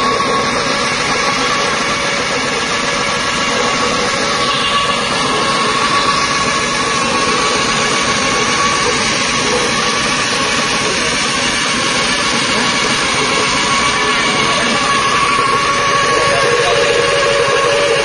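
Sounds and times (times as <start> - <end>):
machine running with mechanical din: 0.0 - 18.0.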